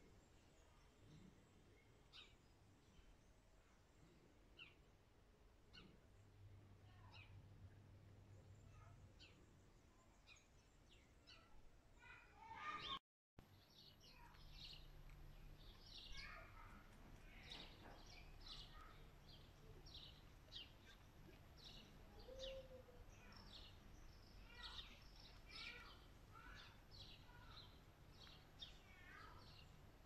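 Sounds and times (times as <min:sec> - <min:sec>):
small birds chirping: 0:00.0 - 0:05.0, 0:05.6 - 0:30.0.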